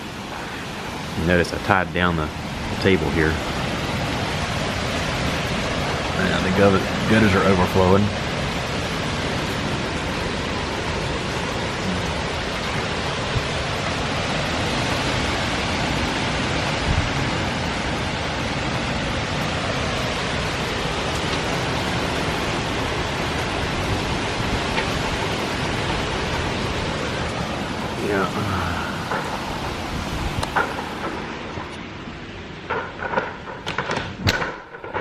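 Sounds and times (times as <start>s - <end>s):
water pouring from gutters: 0.0s - 34.4s
heavy rain: 0.0s - 35.0s
strong wind: 0.0s - 35.0s.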